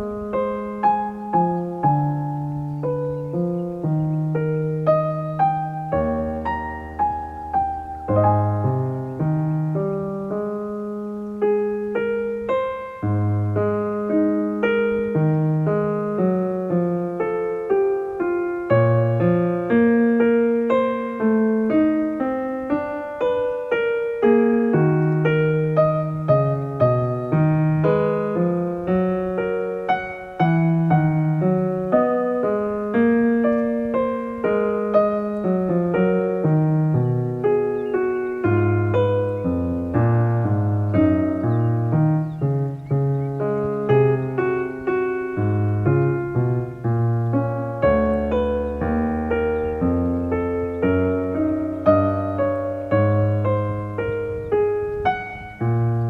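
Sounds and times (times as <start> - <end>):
soft piano music: 0.0 - 56.0.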